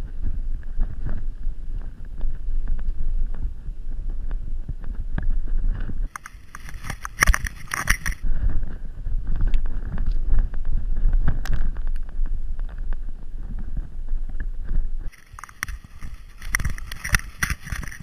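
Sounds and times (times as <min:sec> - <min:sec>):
bike rattling over ground: 0:00.0 - 0:18.0
wind rumbling on microphone: 0:00.0 - 0:18.0.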